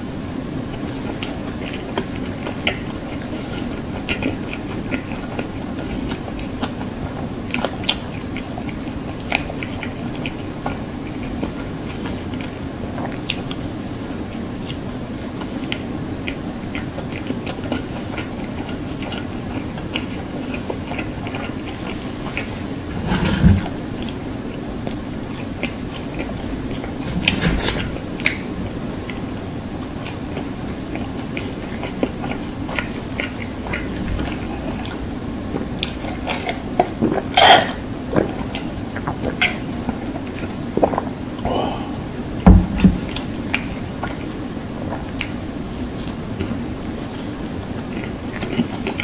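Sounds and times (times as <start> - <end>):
person chewing food: 0.6 - 49.0.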